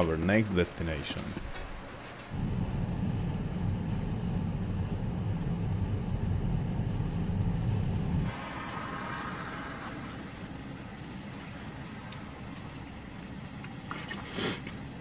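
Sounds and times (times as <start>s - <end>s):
car engine rumble: 0.0s - 15.0s
tyre and road noise: 0.0s - 15.0s.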